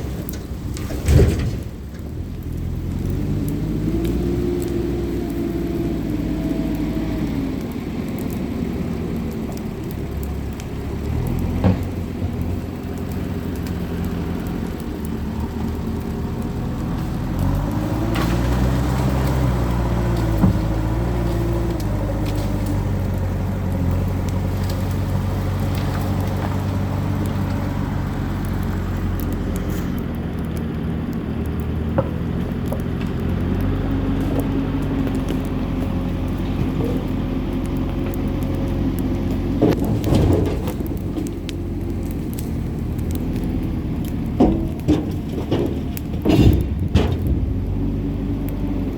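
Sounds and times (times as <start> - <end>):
bonfire burning with pops: 0.0 - 48.9
low droning rumble: 0.0 - 48.9.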